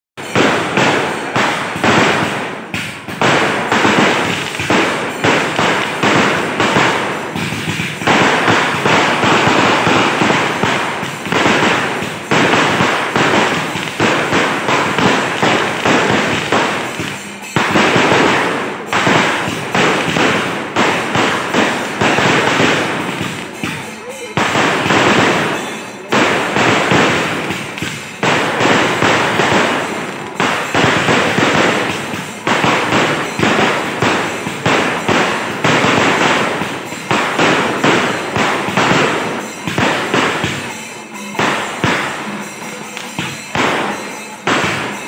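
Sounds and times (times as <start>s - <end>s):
fireworks bangs and crackling: 0.2s - 45.0s.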